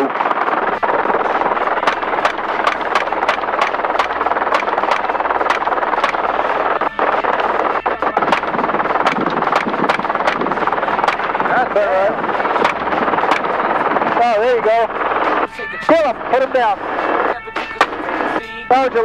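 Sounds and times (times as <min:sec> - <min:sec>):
helicopter noise inside cabin: 0:00.0 - 0:19.0
sharp cracks: 0:00.0 - 0:19.0.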